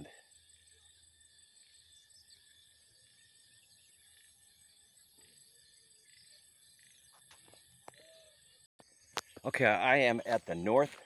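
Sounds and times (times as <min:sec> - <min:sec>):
frogs calling: 0:00.0 - 0:10.8
insects calling: 0:00.0 - 0:11.0.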